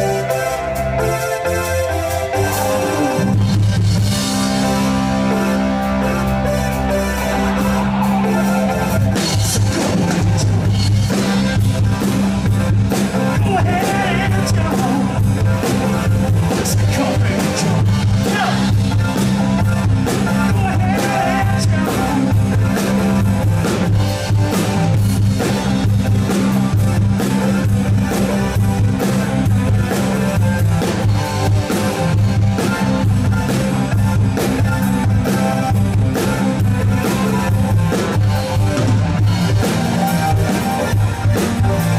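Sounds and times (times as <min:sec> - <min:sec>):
drum kit: 0:00.0 - 0:41.9
electric guitar: 0:00.0 - 0:41.9
repeated low bass notes: 0:00.0 - 0:41.9.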